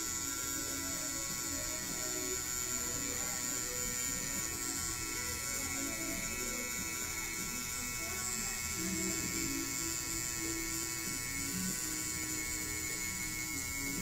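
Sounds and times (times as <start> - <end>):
tattoo machine buzzing: 0.0 - 14.0.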